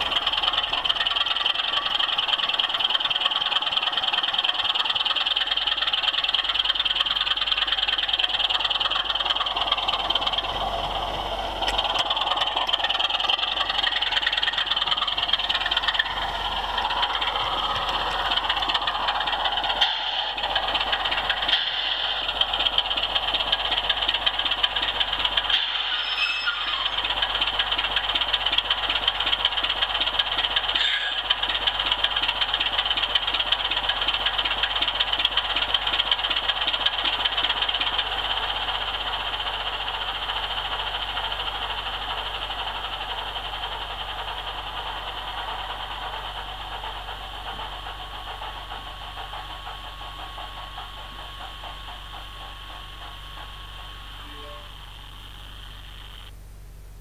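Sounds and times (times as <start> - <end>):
model train motor whirring: 0.0 - 56.3
wheels clicking: 0.0 - 56.3.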